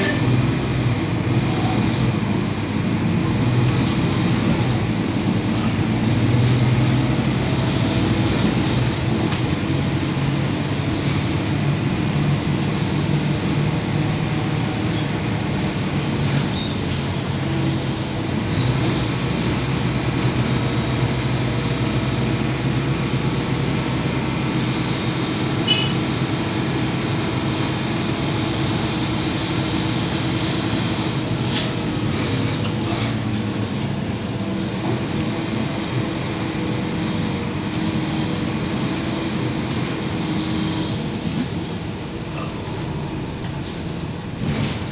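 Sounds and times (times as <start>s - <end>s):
bus engine drone: 0.0s - 44.9s
road noise: 0.0s - 44.9s.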